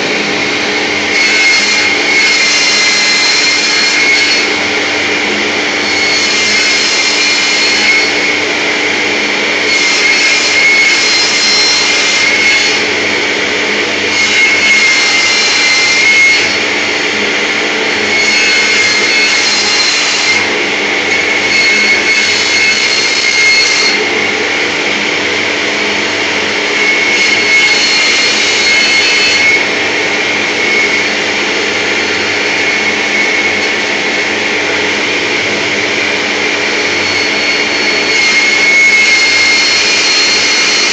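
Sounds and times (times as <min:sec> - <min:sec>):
lathe cutting wood hissing: 0:00.0 - 0:40.9
woodworking lathe whine and hum: 0:00.0 - 0:40.9.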